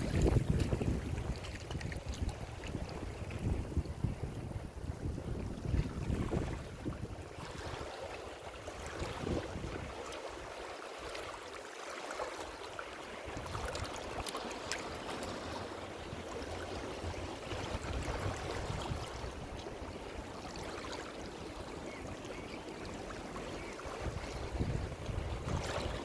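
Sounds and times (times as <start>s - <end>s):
ocean waves washing on shore: 0.0s - 26.0s.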